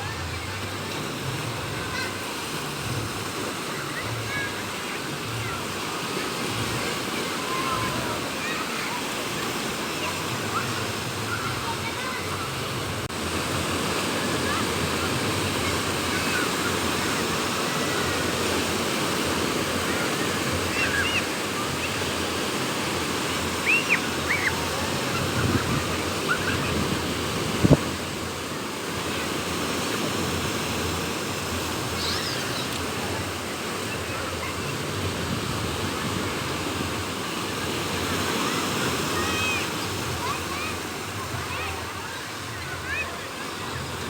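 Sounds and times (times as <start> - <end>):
waves breaking on a beach: 0.0 - 44.0
wind: 0.0 - 44.0.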